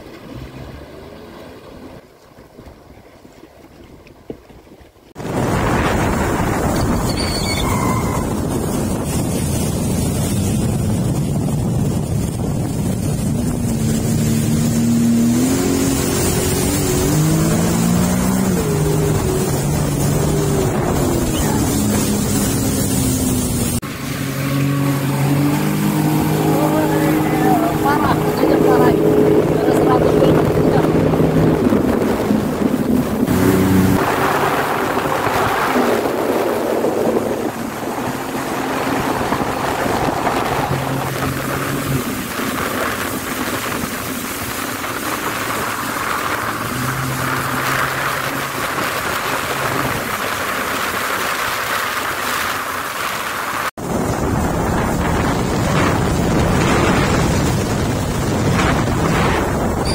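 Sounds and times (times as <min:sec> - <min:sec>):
jet ski engine running: 0:00.0 - 0:59.9
water rushing past hull: 0:00.0 - 0:59.9
wind buffeting microphone: 0:03.9 - 0:59.9.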